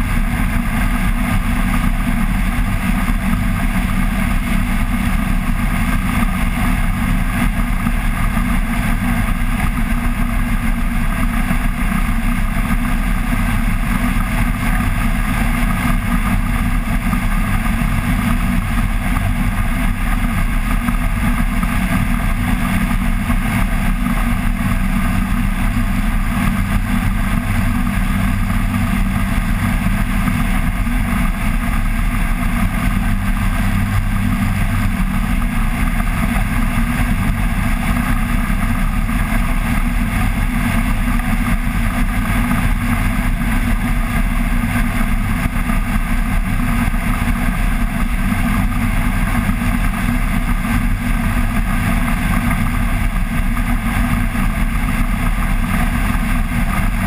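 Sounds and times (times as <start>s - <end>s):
air noise: 0.0s - 57.0s
microlight engine drone: 0.0s - 57.0s.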